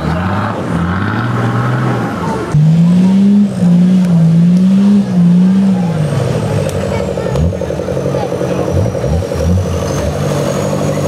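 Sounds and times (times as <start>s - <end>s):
engine revving: 0.0s - 11.0s
loud engine at high revs: 0.0s - 11.0s.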